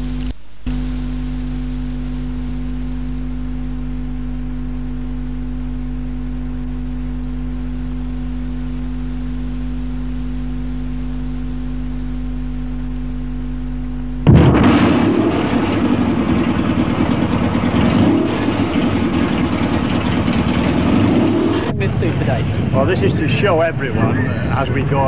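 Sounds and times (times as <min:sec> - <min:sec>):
loud noisy sound: 0:00.0 - 0:10.3, 0:14.2 - 0:25.0
electrical mains hum: 0:00.0 - 0:25.0.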